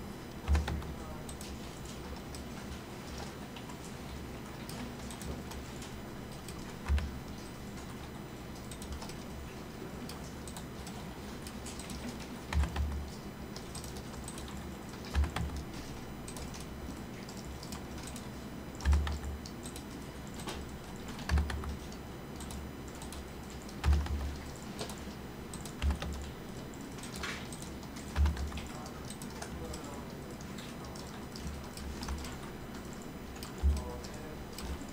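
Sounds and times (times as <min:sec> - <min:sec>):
low steady hum: 0:00.0 - 0:34.9
keyboard keystrokes: 0:00.4 - 0:01.6, 0:04.6 - 0:09.3, 0:10.1 - 0:34.9.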